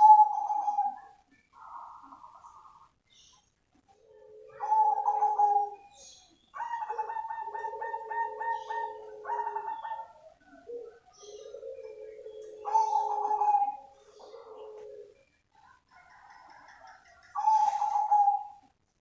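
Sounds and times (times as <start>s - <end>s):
dove cooing: 0.0s - 2.9s, 3.8s - 18.7s.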